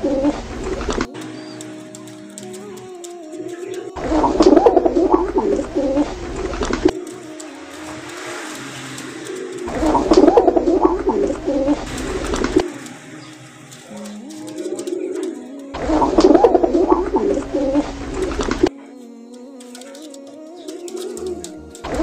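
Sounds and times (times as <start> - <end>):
pigeon cooing: 0.0 - 22.0.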